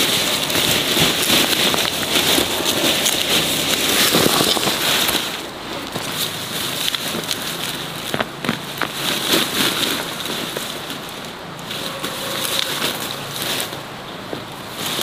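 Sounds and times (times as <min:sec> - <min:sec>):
roots tearing out of soil: 0:00.0 - 0:13.9
leafy stalks rustling and crackling: 0:00.0 - 0:15.0.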